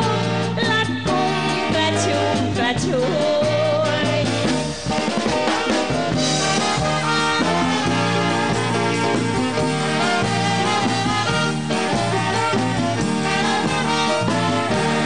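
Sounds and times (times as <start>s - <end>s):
big band playing swing: 0.0s - 15.0s.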